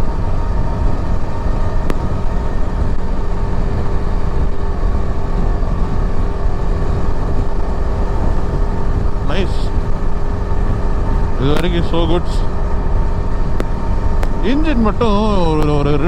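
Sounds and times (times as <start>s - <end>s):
motorcycle engine cruising: 0.0s - 16.0s
wind rush on microphone: 0.0s - 16.0s.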